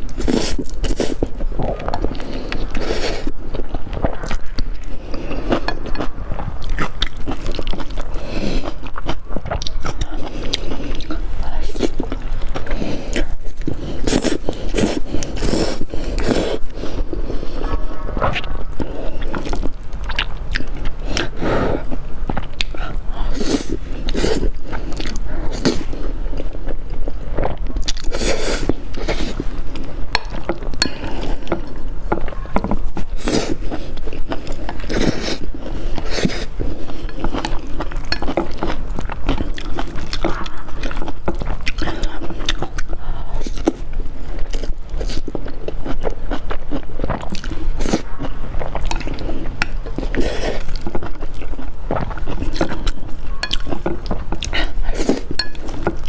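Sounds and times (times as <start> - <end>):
close eating and chewing: 0.0 - 56.0.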